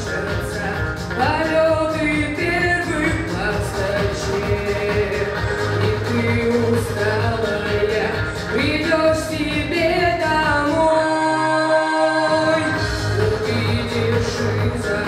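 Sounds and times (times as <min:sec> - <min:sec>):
boy singing into a microphone: 0:00.0 - 0:15.0
pop backing track: 0:00.0 - 0:15.0.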